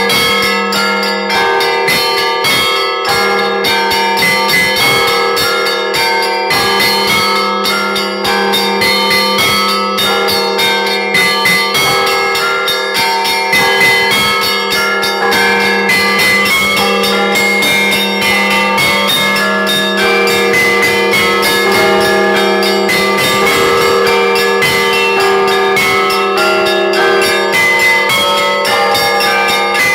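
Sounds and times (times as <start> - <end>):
large bells humming: 0.0 - 29.9
small bells struck quickly: 0.0 - 29.9.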